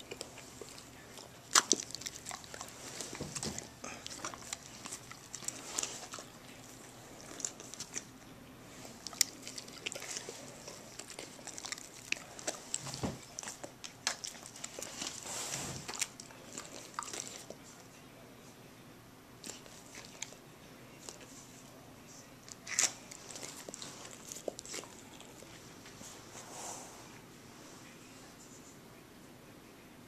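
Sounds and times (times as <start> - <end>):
dogs licking and chewing: 0.0 - 18.0, 19.4 - 21.8, 22.4 - 26.2.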